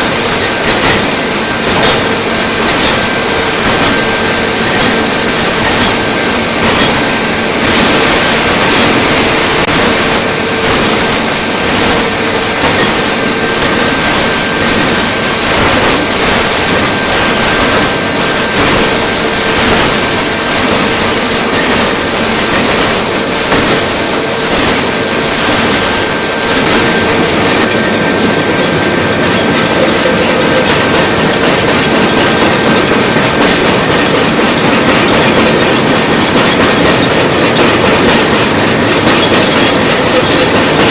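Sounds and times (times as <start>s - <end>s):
machinery clatter: 0.0s - 40.9s
steady machine hum: 0.0s - 40.9s.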